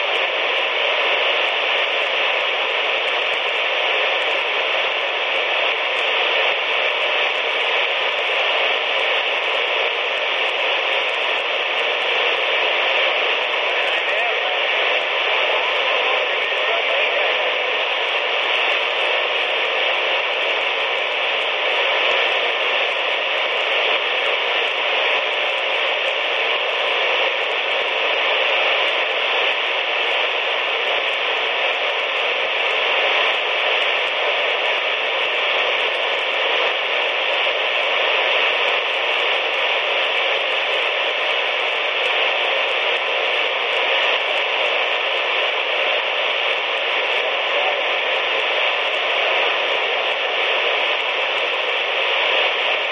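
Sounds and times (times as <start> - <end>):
radio static hiss: 0.0 - 52.9.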